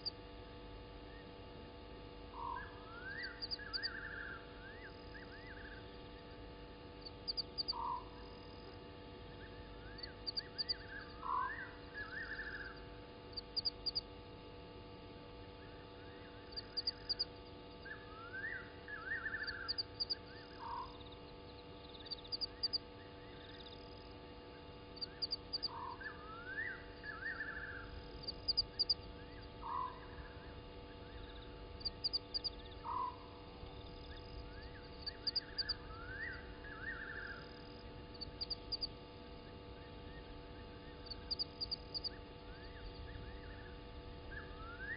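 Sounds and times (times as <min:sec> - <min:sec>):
faint steady hum: 0:00.0 - 0:44.9
frogs calling: 0:02.3 - 0:14.1, 0:15.6 - 0:43.7.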